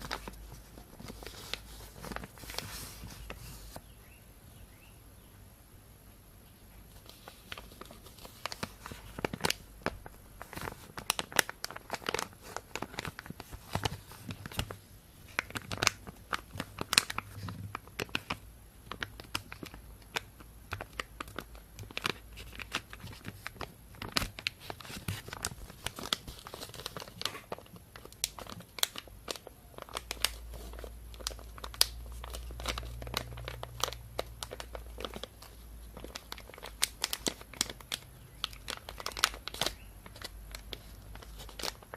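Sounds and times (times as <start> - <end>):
plastic bag crinkling: 0.0 - 3.8, 7.0 - 41.9.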